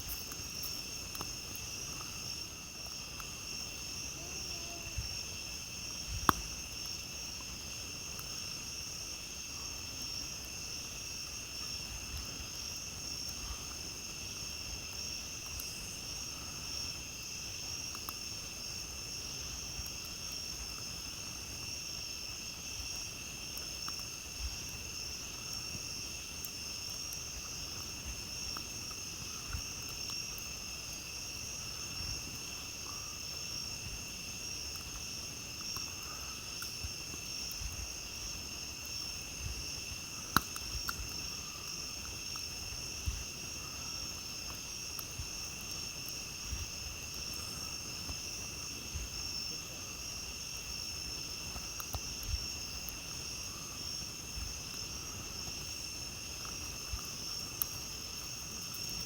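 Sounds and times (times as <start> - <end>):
campfire crackling: 0.0 - 59.0
crickets trilling: 0.0 - 59.0.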